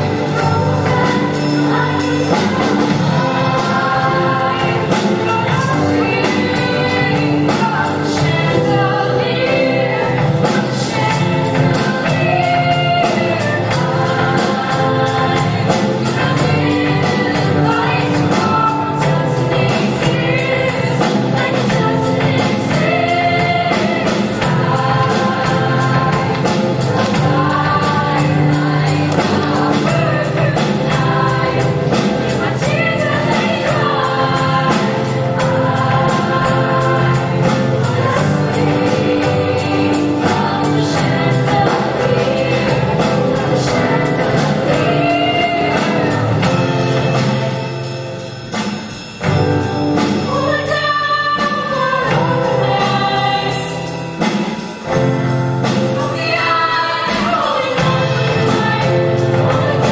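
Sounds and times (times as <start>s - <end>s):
choir singing in parts: 0.0s - 59.9s
drums steady beat: 0.0s - 59.9s
live band playing: 0.0s - 59.9s.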